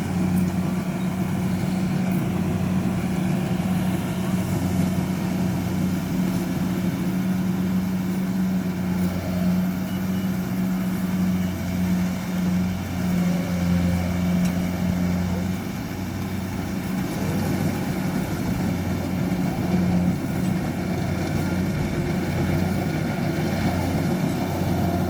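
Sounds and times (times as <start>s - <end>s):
combine harvester engine droning: 0.0s - 25.0s.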